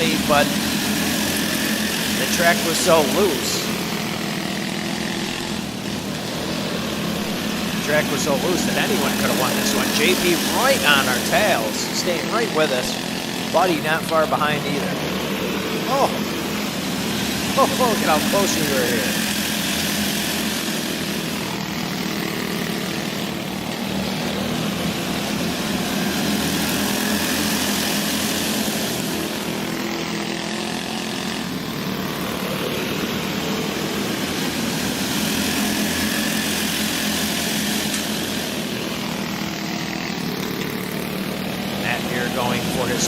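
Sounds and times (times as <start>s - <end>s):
go-kart engines buzzing: 0.0s - 43.0s.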